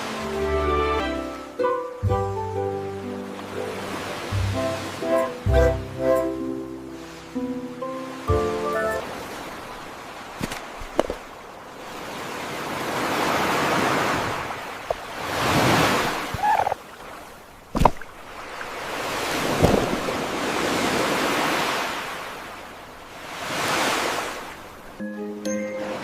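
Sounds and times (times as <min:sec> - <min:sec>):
ocean waves washing in: 0:00.0 - 0:25.0, 0:25.7 - 0:26.0.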